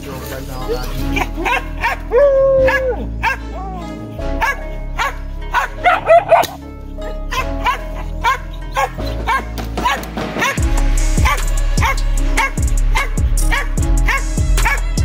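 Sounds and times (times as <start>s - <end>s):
background music: 0.0s - 15.0s
dogs yelping and barking: 1.0s - 15.0s.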